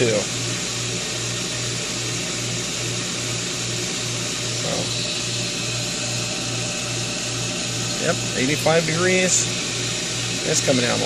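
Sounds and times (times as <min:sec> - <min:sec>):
pump motor pulsing hum: 0:00.0 - 0:11.0.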